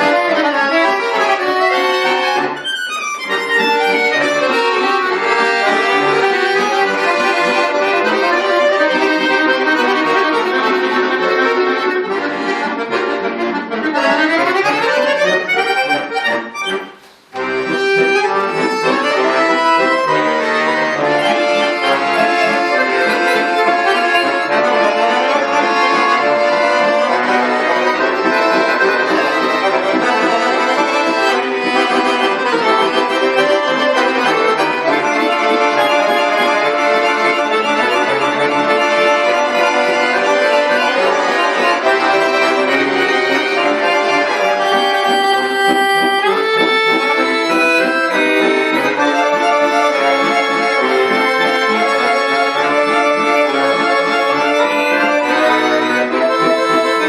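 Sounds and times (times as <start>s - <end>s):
button accordion playing: 0.0s - 57.0s.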